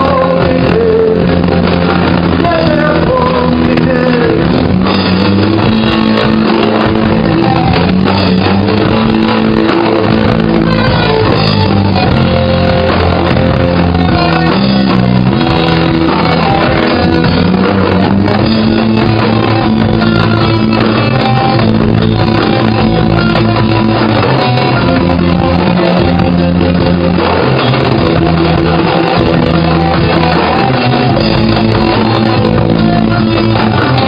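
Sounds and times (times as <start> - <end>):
rock band playing live: 0.0 - 34.0.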